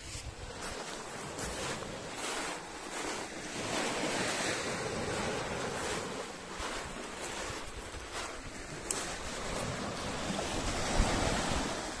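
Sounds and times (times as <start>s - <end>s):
waves washing onto shore: 0.0s - 12.0s.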